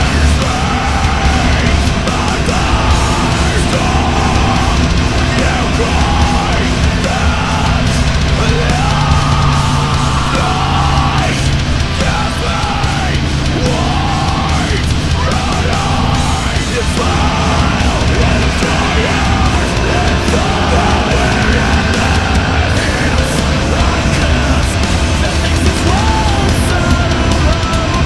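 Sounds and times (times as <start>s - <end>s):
loud rock music: 0.0s - 28.0s.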